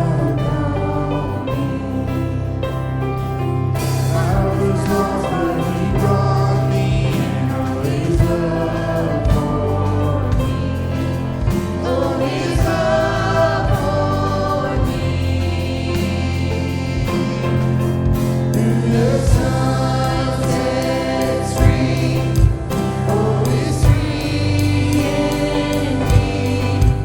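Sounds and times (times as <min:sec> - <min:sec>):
voices singing: 0:00.0 - 0:02.7, 0:03.8 - 0:27.0
sustained bass notes: 0:00.0 - 0:27.0
drum hits: 0:03.8 - 0:27.0.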